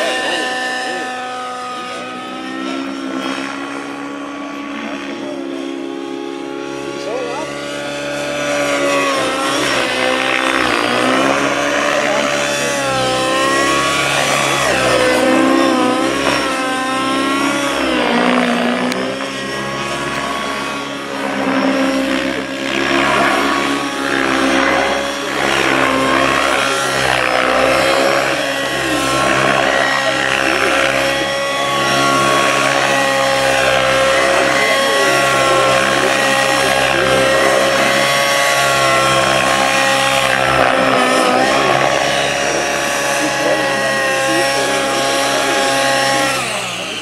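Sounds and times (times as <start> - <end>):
model helicopter motor whine: 0.0 - 47.0.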